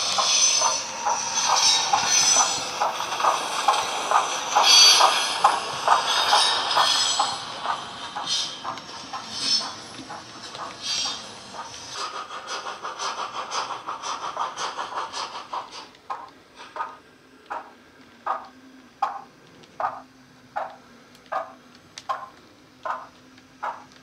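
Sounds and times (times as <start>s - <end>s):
model steam locomotive chuffs: 0.0s - 24.0s.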